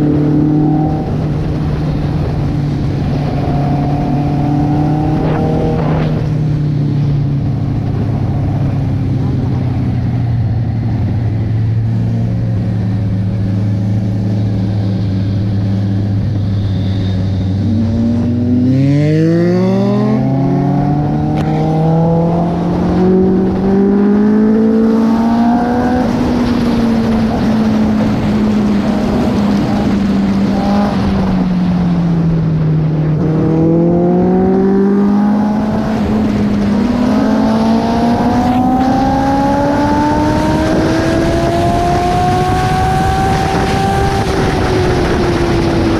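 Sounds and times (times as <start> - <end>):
motorcycle engine revving: 0.0 - 45.9
wind noise on microphone: 0.0 - 45.9.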